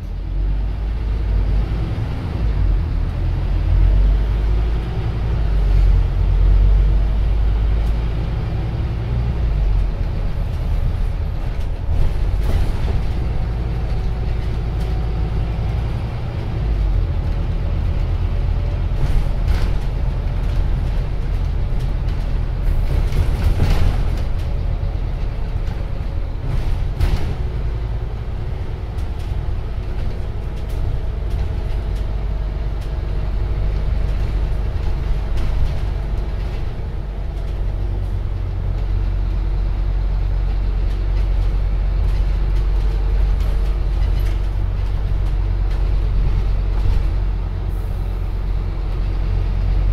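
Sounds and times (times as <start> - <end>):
bus engine rumbling: 0.0 - 49.9.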